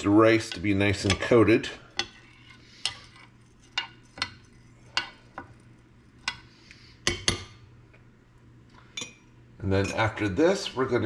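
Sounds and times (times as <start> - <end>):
faint stirring noise: 0.0 - 11.0.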